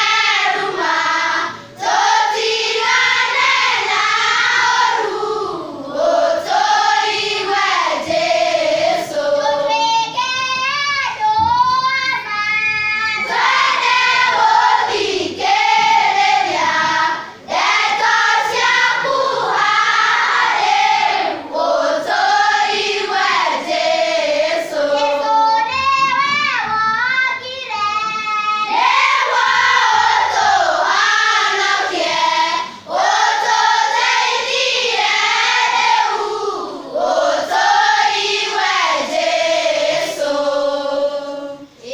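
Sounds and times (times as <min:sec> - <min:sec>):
children's choir singing: 0:00.0 - 0:41.9.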